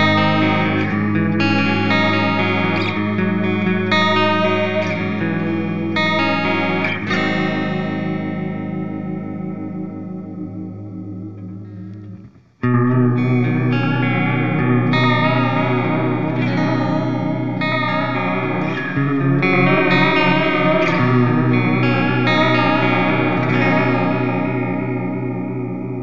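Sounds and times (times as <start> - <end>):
clean electric guitar chords: 0.0 - 26.0.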